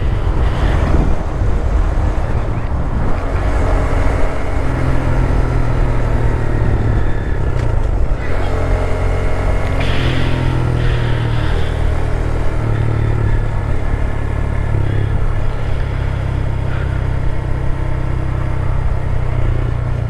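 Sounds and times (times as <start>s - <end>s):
motorcycle engine running: 0.0s - 20.0s
wind buffeting a microphone: 0.0s - 20.0s.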